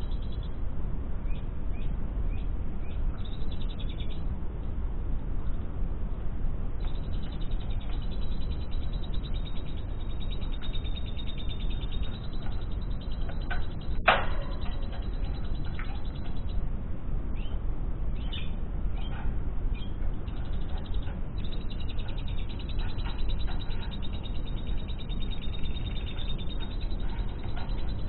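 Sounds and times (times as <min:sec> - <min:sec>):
lovebird chirping: 0:00.0 - 0:00.6, 0:01.2 - 0:04.3, 0:06.8 - 0:16.6, 0:18.2 - 0:28.0
low hum: 0:00.0 - 0:28.0.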